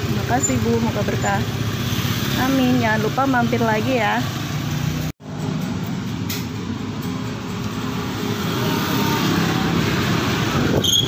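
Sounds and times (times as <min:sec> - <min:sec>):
road noise: 0:00.0 - 0:11.0
scooters and motorcycles running: 0:00.0 - 0:11.0.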